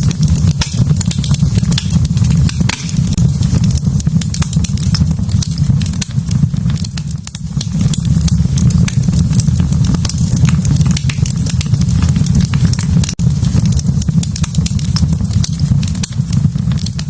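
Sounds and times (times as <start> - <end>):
low rumble: 0.0 - 17.0
wood fire crackling and popping: 0.0 - 17.0.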